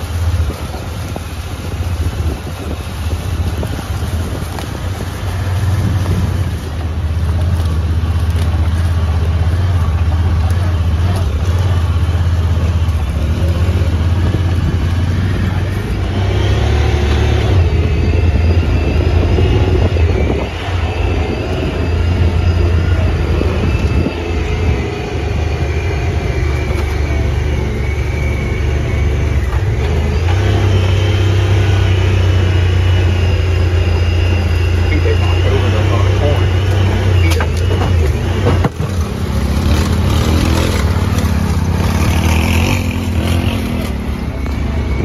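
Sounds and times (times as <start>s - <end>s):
utility vehicle engine droning: 0.0s - 45.0s.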